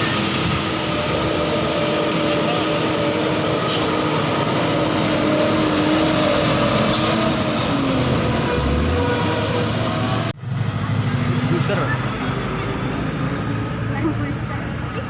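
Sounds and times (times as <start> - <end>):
dump truck diesel engine passing: 0.0 - 15.0.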